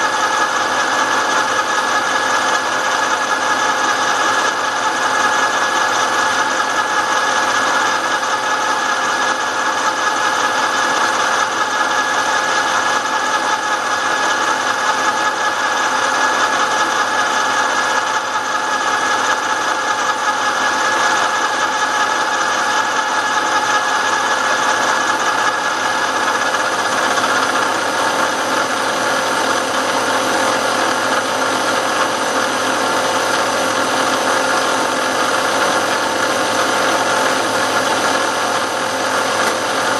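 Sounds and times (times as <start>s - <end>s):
milling machine cutting steel: 0.0s - 39.9s.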